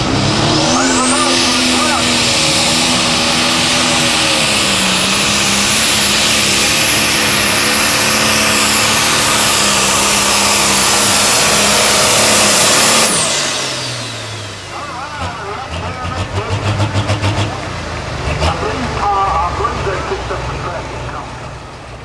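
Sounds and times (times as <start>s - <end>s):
diesel tractor engine at full throttle: 0.0s - 22.0s.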